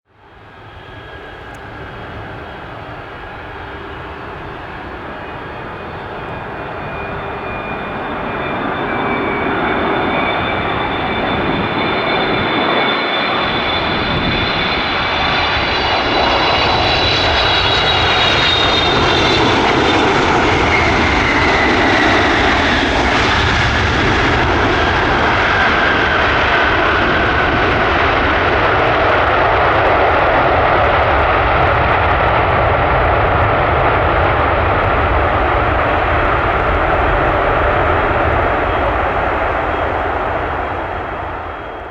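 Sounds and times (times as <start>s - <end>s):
jet engines roaring: 0.1s - 41.9s.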